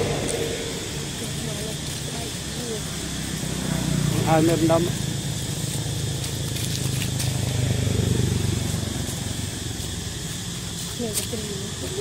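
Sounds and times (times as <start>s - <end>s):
dry leaves crackling: 0.0s - 12.0s
steady low rumble: 0.0s - 12.0s.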